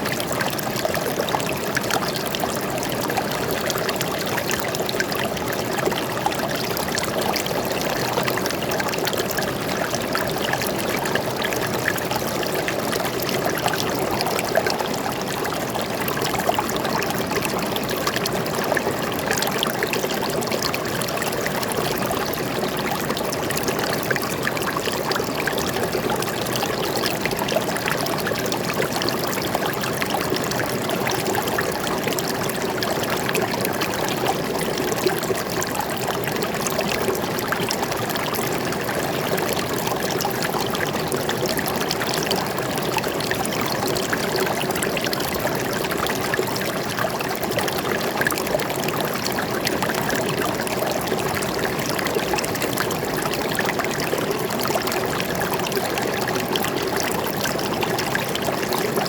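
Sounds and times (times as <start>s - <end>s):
stream water babbling: 0.0s - 59.0s.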